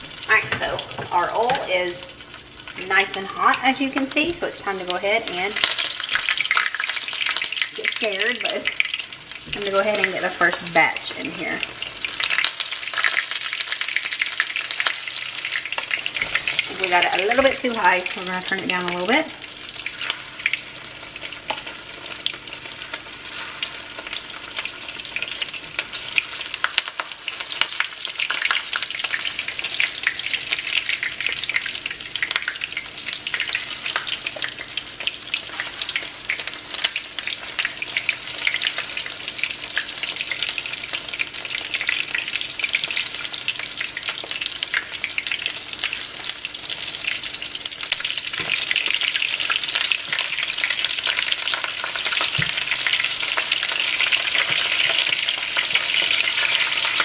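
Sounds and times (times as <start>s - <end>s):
chicken deep-frying in oil: 0.0s - 57.0s.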